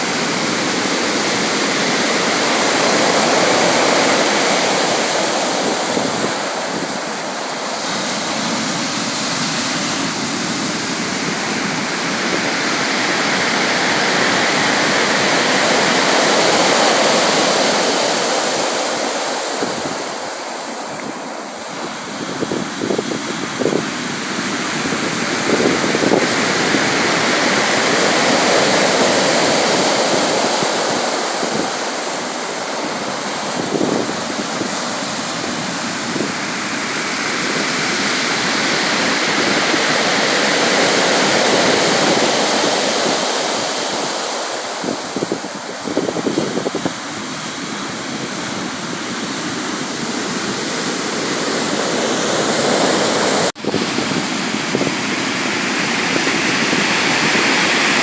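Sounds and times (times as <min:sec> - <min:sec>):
sea waves breaking on shore: 0:00.0 - 0:58.0
wind buffeting microphone: 0:00.0 - 0:58.0.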